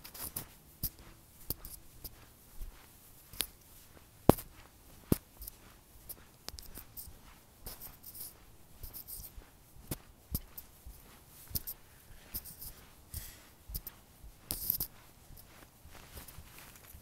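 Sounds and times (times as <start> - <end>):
light rustling: 0.0 - 17.0.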